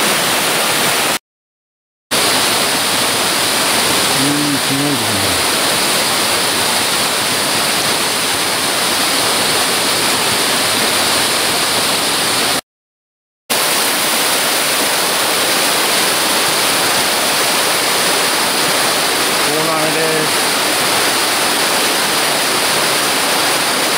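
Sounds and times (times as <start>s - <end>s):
waterfall rushing: 2.2s - 12.6s, 13.5s - 23.9s.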